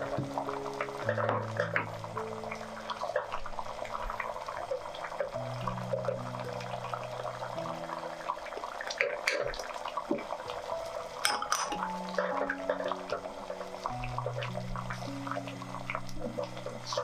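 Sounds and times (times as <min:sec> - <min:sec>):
curry bubbling in pot: 0:00.0 - 0:17.0
soft background music: 0:00.0 - 0:17.0.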